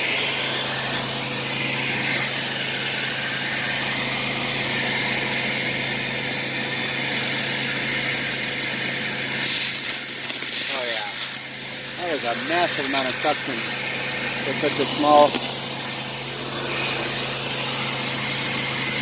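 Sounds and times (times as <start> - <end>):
shop vacuum running: 0.0 - 19.0.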